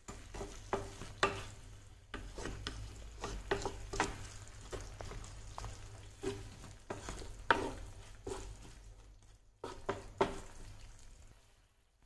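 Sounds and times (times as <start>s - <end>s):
spatula scraping a pan: 0.0s - 9.0s, 9.6s - 11.0s
faint sizzle: 0.0s - 12.0s.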